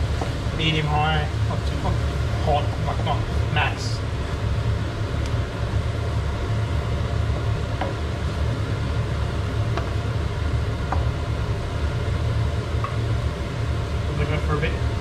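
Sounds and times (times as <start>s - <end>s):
kitchen exhaust fan humming: 0.0s - 15.0s.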